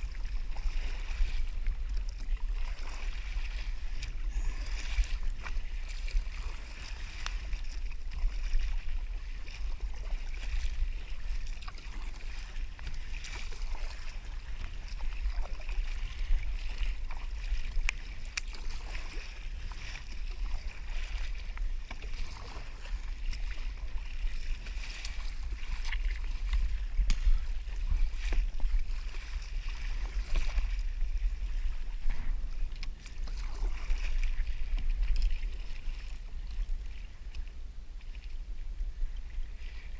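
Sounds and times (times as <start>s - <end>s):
water lapping against kayak hull: 0.0s - 39.9s.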